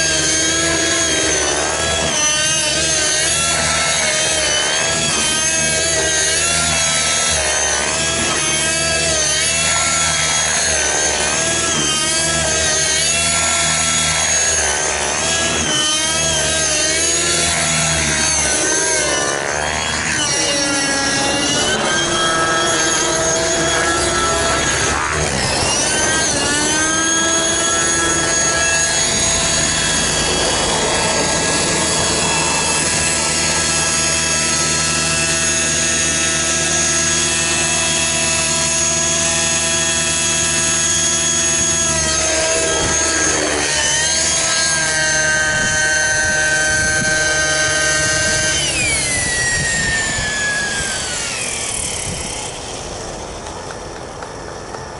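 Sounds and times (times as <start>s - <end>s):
rc helicopter engine and rotor: 0.0s - 54.9s.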